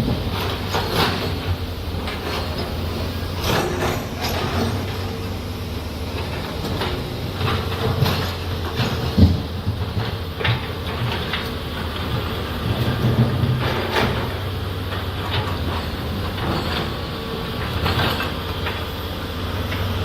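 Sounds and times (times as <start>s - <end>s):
excavator diesel engine running: 0.0s - 20.0s
metallic clanks from tracks: 0.0s - 20.0s.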